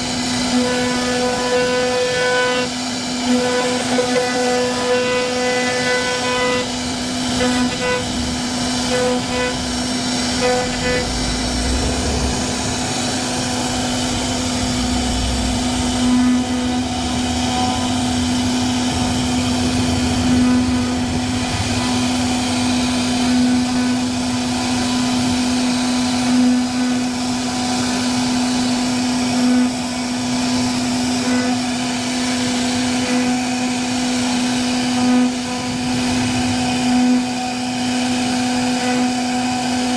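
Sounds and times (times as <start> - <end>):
cutting wood: 0.0 - 39.9
router spindle motor humming: 0.0 - 39.9.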